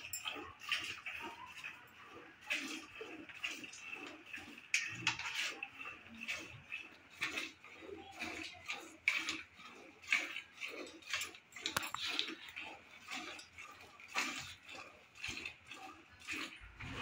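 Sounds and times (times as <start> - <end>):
milk squirting into steel bucket: 0.0 - 17.0.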